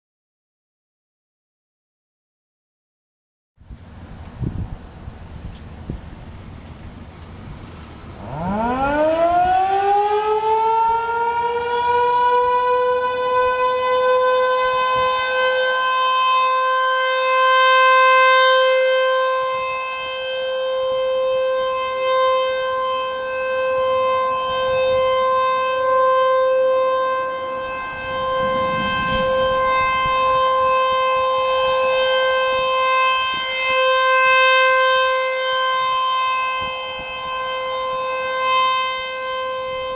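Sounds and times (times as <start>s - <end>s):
civil defense siren: 7.6s - 39.9s.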